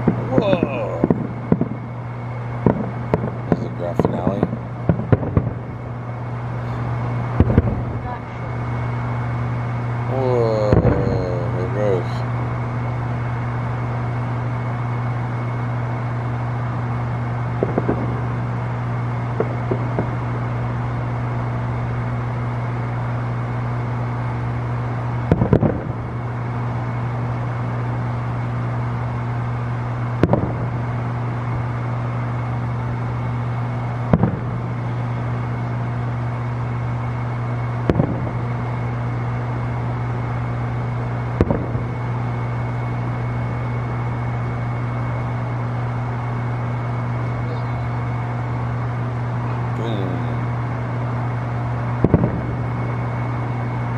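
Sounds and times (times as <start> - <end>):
distant fireworks booming: 0.0 - 53.9
steady low hum: 0.0 - 53.9.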